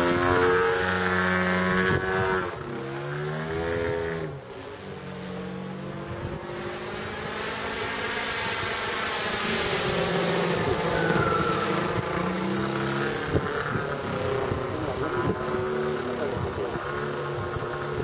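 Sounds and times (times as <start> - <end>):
model plane engine drone: 0.0 - 6.4, 7.0 - 18.0.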